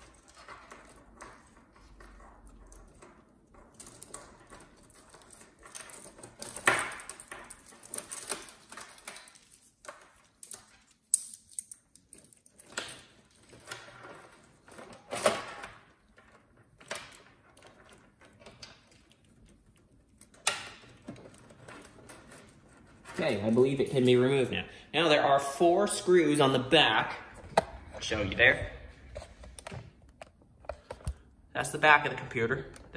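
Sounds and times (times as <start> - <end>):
cables rustling and scraping on metal: 0.0 - 32.9.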